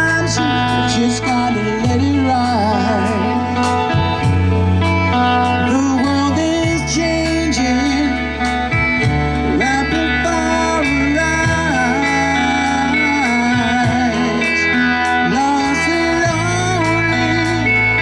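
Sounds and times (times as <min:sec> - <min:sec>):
live rock band playing: 0:00.0 - 0:18.0
melodic line bending and gliding: 0:00.0 - 0:18.0.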